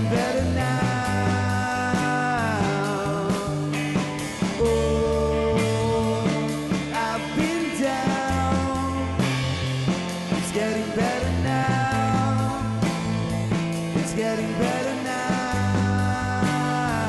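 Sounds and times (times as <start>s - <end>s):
man singing into a microphone: 0.0s - 9.4s, 10.3s - 13.0s, 14.0s - 17.0s
live rock band playing: 0.0s - 17.0s.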